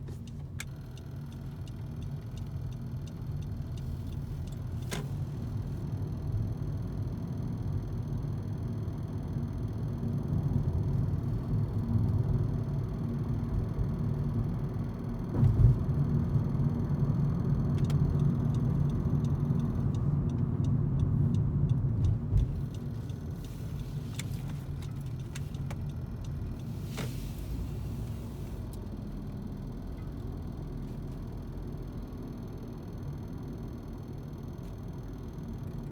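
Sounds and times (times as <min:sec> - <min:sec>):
car road and engine rumble: 0:00.0 - 0:35.9.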